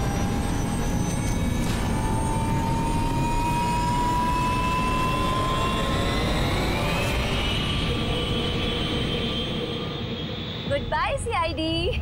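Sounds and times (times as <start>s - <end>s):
thin rising whine: 0.0s - 10.8s.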